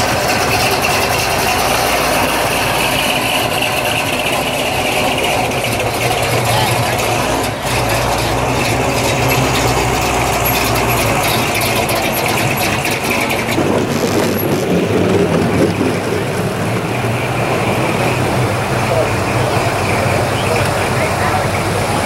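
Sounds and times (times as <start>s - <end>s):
car engines idling: 0.0s - 22.0s.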